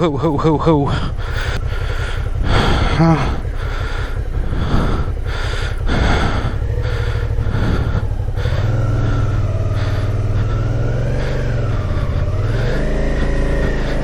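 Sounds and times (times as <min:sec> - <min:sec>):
motorcycle engine under throttle: 0:00.0 - 0:14.0.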